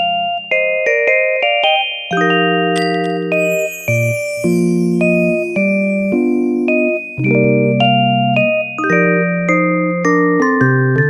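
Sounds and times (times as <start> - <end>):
gentle chiming instrumental music: 0.0 - 10.5.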